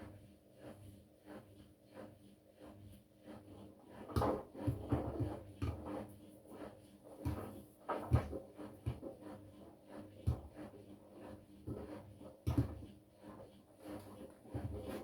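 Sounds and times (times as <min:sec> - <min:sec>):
faint washing machine hum: 0:00.0 - 0:15.0.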